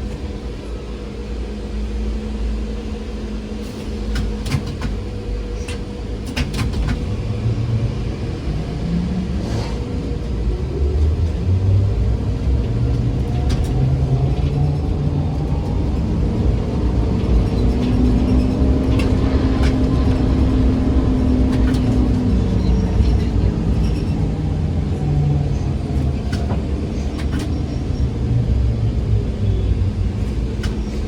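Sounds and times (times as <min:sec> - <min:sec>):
trolleybus rumble and hum: 0:00.0 - 0:31.0.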